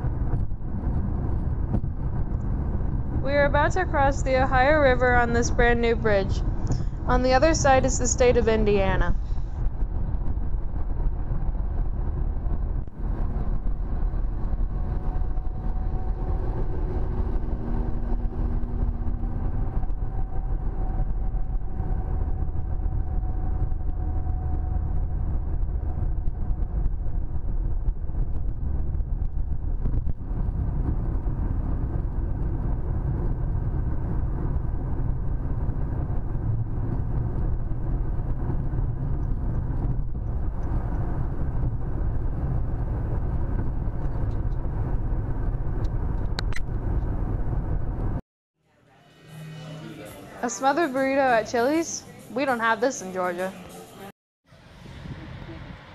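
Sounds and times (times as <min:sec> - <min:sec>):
car driving tyre and engine noise: 0:00.0 - 0:48.2.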